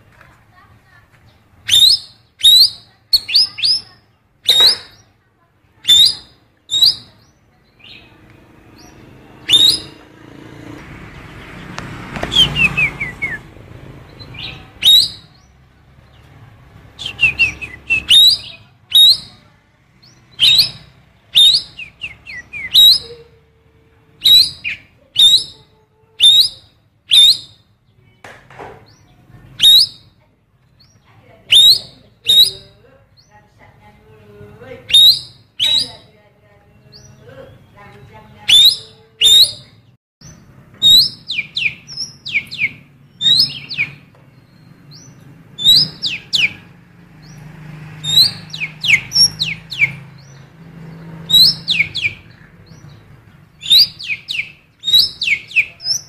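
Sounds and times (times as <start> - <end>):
songbird calling: 0.9 - 28.2, 28.8 - 56.0.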